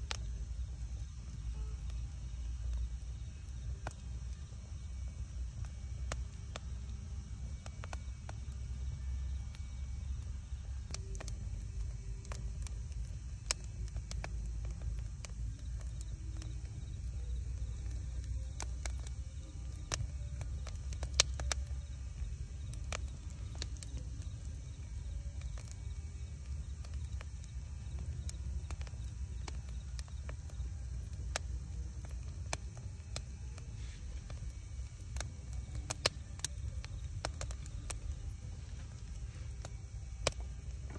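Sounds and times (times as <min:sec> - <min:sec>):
fire crackles and pops: 0:00.0 - 0:40.9
low rumble of flame: 0:00.0 - 0:40.9.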